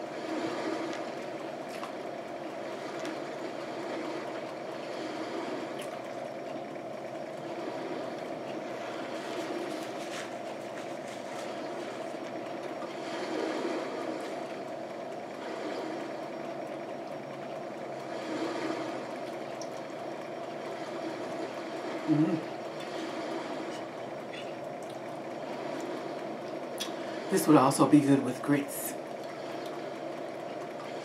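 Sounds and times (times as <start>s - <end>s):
background hum: 0.0s - 31.0s.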